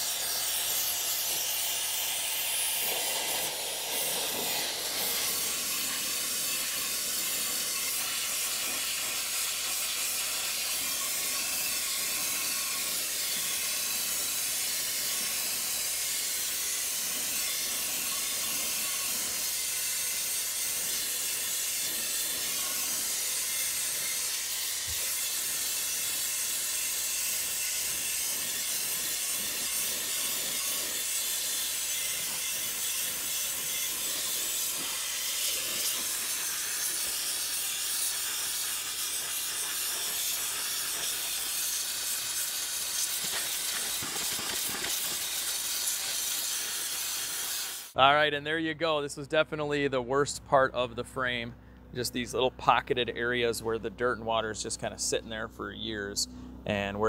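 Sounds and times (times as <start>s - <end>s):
wet sandblasting jet hissing: 0.0s - 48.3s.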